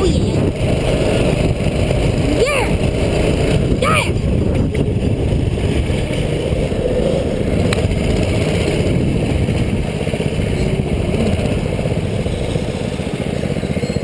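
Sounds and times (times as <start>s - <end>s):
mini bike engine running: 0.0s - 14.0s.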